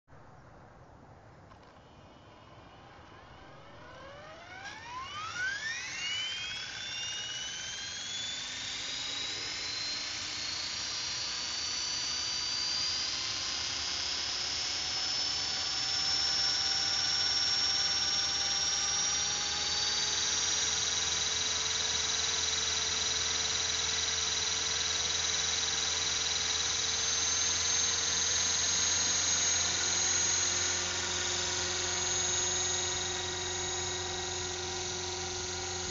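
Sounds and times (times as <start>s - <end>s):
low rotor hum: 1.5s - 35.9s
model helicopter motor whine: 1.5s - 35.9s.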